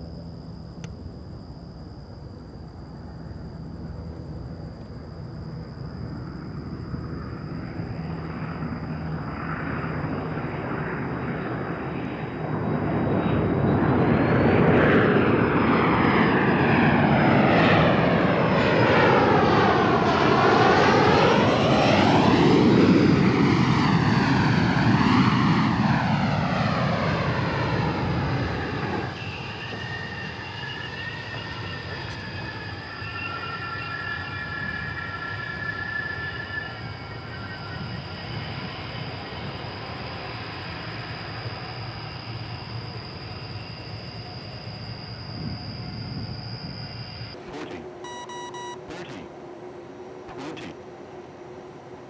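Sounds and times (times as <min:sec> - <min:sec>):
airplane flying past: 0:00.0 - 0:52.0.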